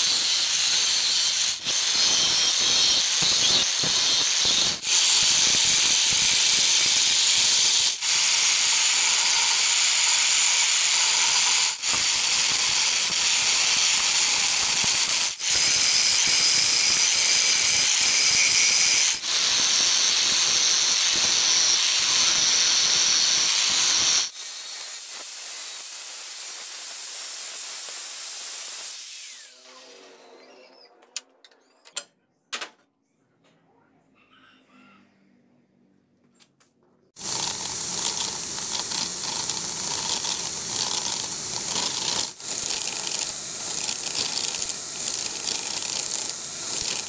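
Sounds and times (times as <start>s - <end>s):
angle grinder grinding steel: 0.0s - 30.3s, 37.2s - 47.0s.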